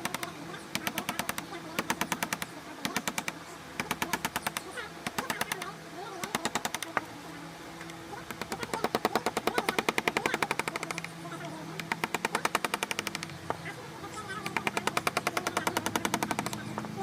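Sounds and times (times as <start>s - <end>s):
rapid tapping on a chisel: 0.0s - 7.1s, 7.8s - 11.2s, 11.8s - 17.0s.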